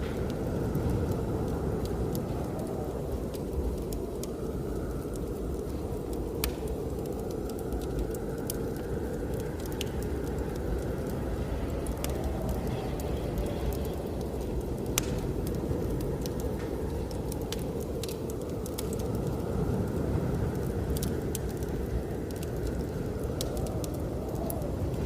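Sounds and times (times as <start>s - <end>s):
blizzard wind rushing: 0.0s - 25.0s
wood fire crackling and popping: 0.0s - 25.0s.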